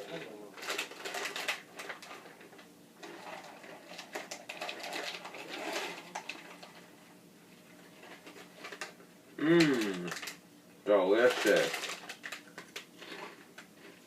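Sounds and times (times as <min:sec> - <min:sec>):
crunchy snacks clicking and rustling: 0:00.0 - 0:06.9, 0:07.8 - 0:10.4, 0:11.1 - 0:14.0.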